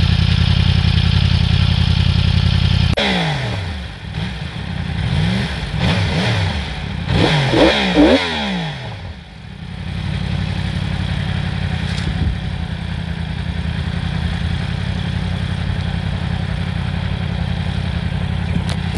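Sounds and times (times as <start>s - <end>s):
motorcycle engine revving and idling: 0.0s - 18.9s.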